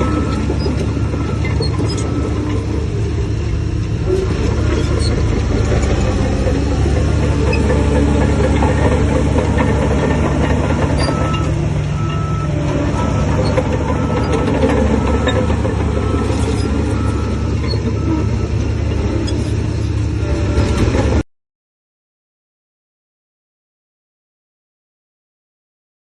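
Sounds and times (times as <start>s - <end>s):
heavy diesel engine droning: 0.0s - 21.2s.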